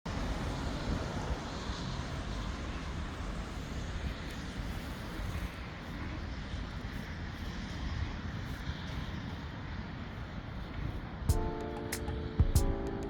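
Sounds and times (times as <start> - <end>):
moving vehicle rumble and hiss: 0.1 - 11.3.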